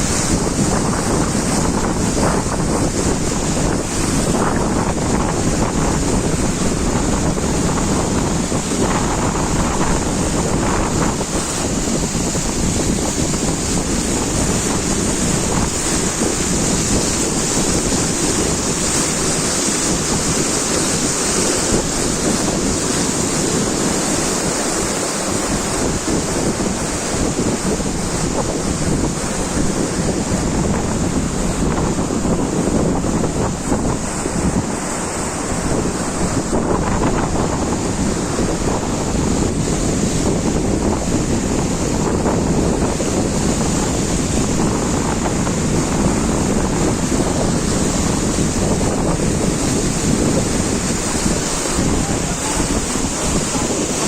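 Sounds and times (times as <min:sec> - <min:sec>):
loud steady rushing noise: 0:00.0 - 0:54.0.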